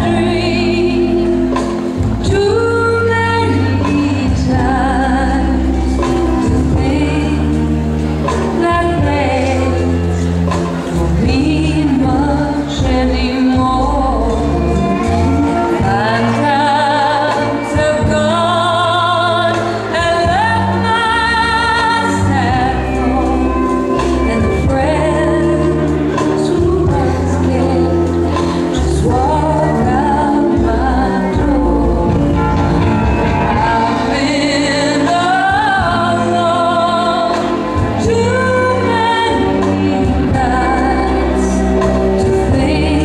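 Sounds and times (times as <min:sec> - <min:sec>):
instrumental backing with bass: 0:00.0 - 0:43.0
person singing with vibrato: 0:00.0 - 0:43.0.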